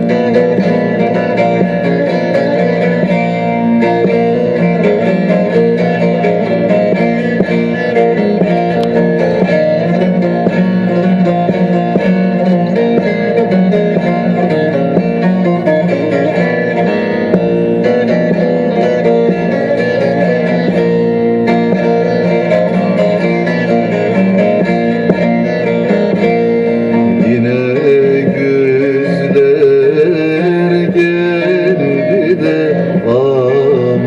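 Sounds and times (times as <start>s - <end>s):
plucked string melody: 0.0s - 34.0s.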